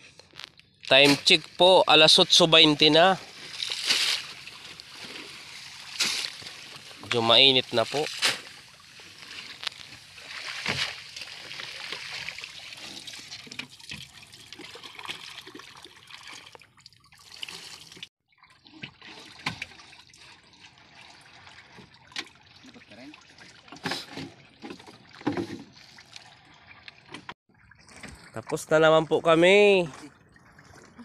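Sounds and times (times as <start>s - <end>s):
small splashes: 2.7s - 28.6s, 29.8s - 31.0s.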